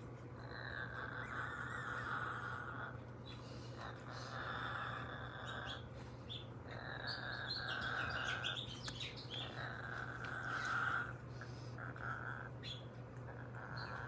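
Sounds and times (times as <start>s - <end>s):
bird scratchy calls: 0.5s - 14.0s.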